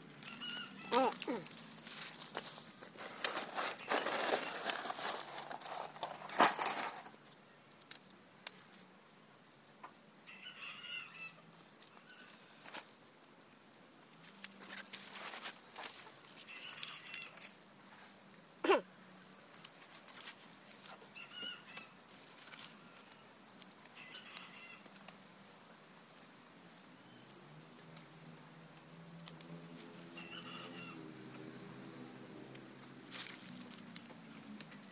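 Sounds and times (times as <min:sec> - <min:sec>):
wire and branches clicking rustling: 0:00.0 - 0:10.2, 0:11.4 - 0:30.3, 0:31.0 - 0:34.9.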